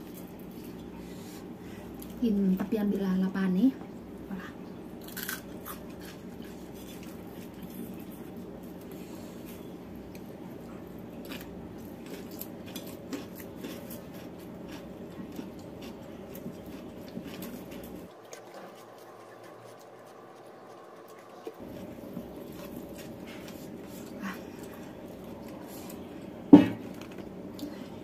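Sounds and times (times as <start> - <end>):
steady low hum: 0.0 - 28.0
chewing: 5.0 - 28.0.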